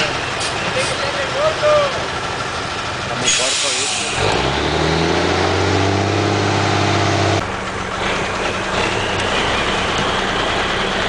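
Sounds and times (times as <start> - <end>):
diesel truck engine: 0.0 - 11.0.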